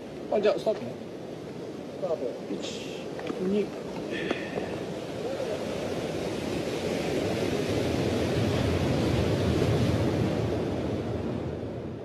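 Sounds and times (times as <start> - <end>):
sea surf: 0.0 - 12.0
wind: 0.0 - 12.0.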